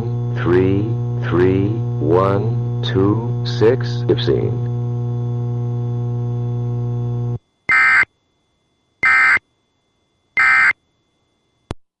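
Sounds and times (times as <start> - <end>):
electrical hum: 0.0 - 11.8.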